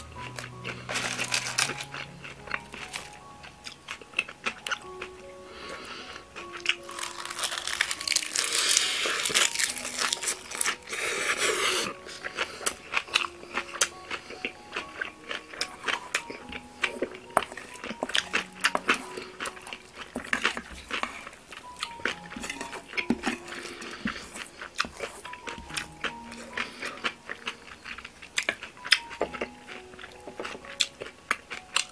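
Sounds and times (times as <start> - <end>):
loud crunchy chewing: 0.0 - 31.9.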